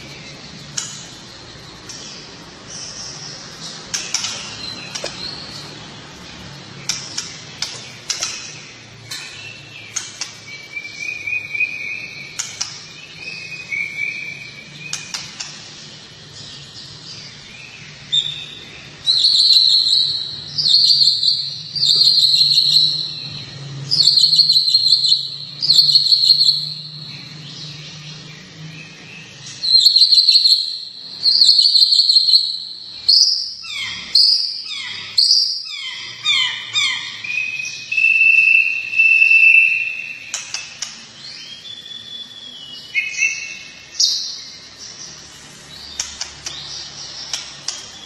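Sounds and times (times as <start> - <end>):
loud buzzy bird trills: 0.0 - 48.0
songbird chirps and warbling: 0.0 - 48.0.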